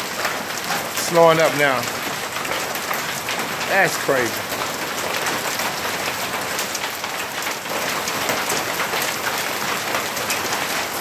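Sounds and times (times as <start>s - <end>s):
hailstones falling: 0.0s - 11.0s.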